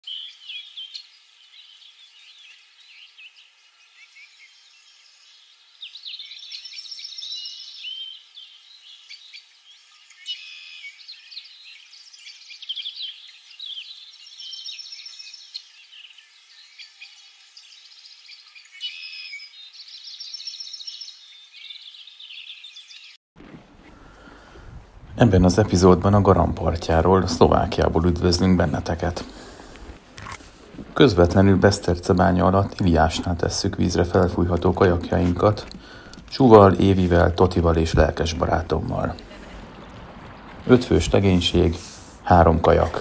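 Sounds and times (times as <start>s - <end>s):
songbirds chirping and trilling: 0.0s - 23.2s, 23.8s - 43.0s.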